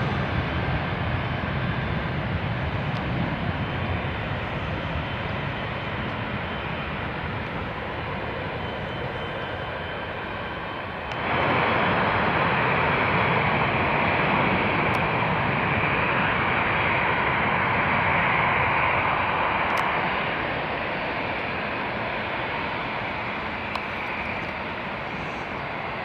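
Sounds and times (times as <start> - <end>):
jet airliner engines: 0.0 - 26.0.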